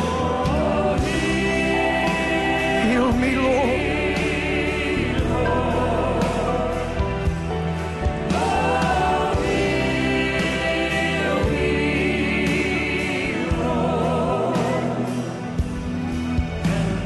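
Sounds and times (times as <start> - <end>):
band accompaniment: 0.0 - 17.0
choir singing gospel chorus: 0.0 - 17.0.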